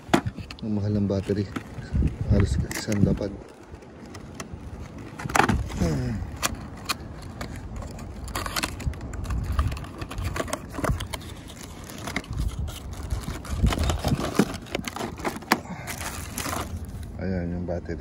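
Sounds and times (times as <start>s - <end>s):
packaging crinkling and clicking: 0.0s - 17.0s.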